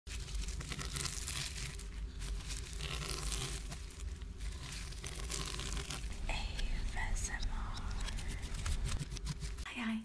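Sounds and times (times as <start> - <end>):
plastic or paper crinkling: 0.1 - 9.7.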